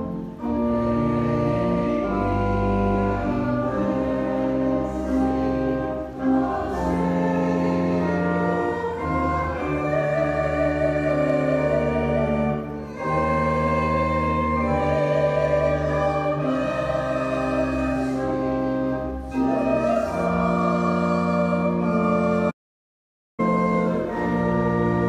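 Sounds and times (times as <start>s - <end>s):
organ chords: 0.0s - 22.6s, 23.4s - 25.0s
voices singing a hymn: 0.4s - 22.5s, 23.4s - 25.0s.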